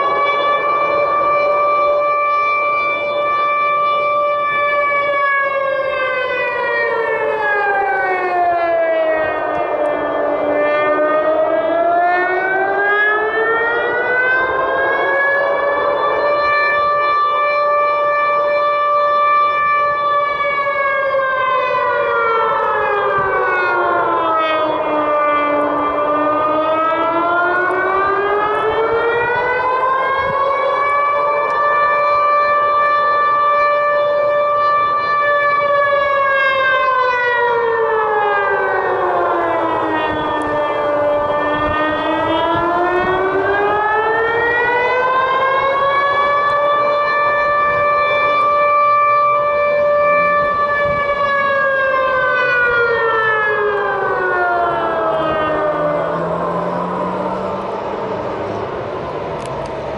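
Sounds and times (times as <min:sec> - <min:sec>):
siren wailing: 0:00.0 - 0:59.9.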